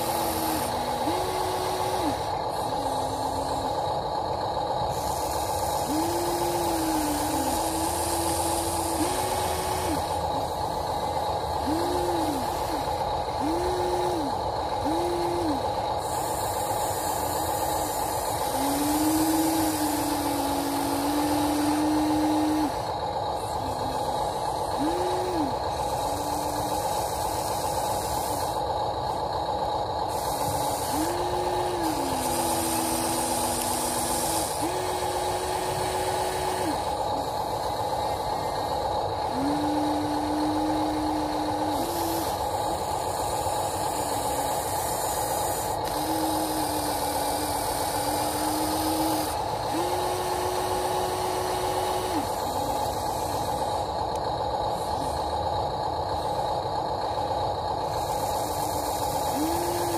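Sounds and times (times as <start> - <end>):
electric motors whining: 0.0 - 59.9
steady hum: 0.0 - 59.9.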